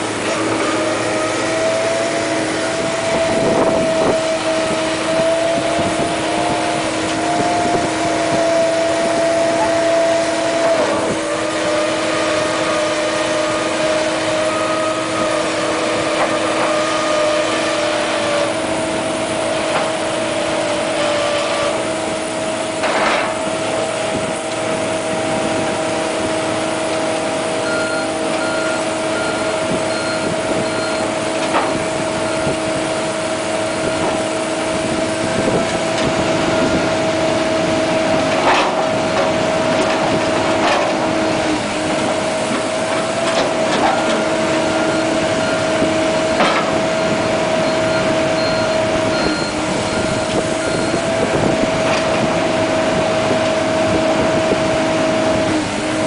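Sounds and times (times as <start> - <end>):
piling rig engines droning: 0.0 - 56.0.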